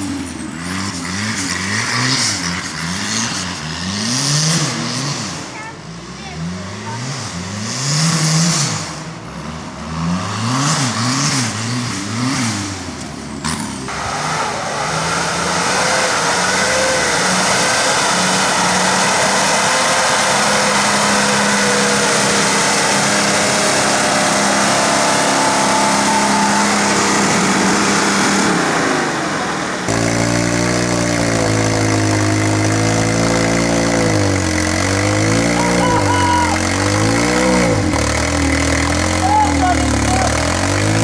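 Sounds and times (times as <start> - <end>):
buggy engine revving: 0.0 - 41.0
suv engine under load: 0.0 - 41.0.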